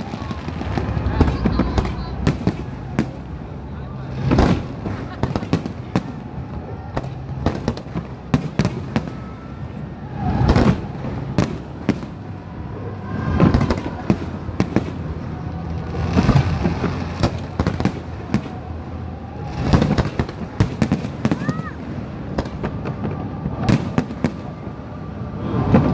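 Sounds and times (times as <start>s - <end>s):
fireworks booms: 0.0s - 18.8s, 19.4s - 24.9s, 25.5s - 25.9s
fireworks bangs and crackles: 0.0s - 25.9s.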